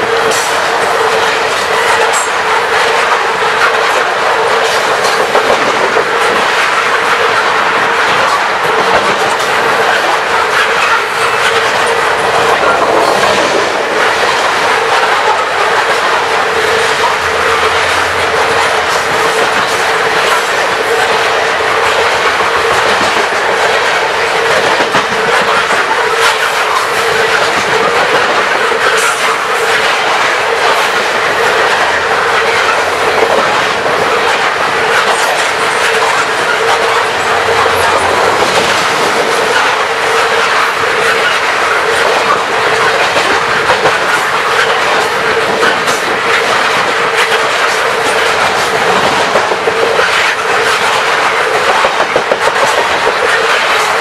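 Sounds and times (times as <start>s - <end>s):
steel wheels rumbling on rails: 0.0s - 54.0s.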